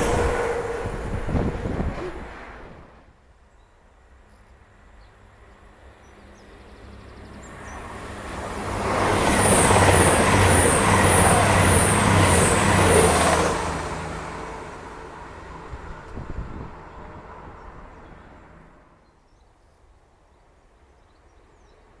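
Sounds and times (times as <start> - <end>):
diesel train passing: 0.0 - 3.3, 4.0 - 19.1.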